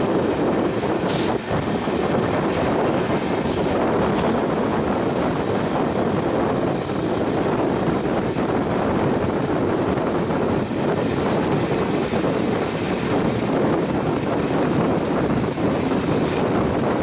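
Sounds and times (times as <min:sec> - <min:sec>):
moving train rumbling: 0:00.0 - 0:17.0.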